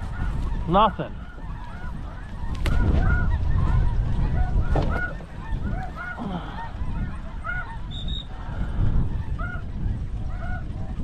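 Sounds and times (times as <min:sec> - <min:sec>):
geese honking: 0:00.0 - 0:11.0
wind rumble on microphone: 0:00.0 - 0:11.0.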